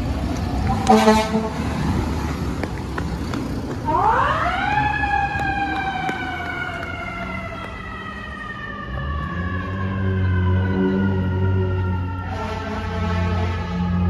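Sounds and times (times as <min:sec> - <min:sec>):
fire engine siren: 0:00.0 - 0:02.1, 0:03.8 - 0:14.0.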